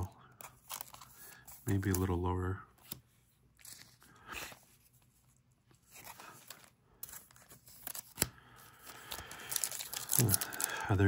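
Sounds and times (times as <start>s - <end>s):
card packaging rustling: 0.0s - 11.0s.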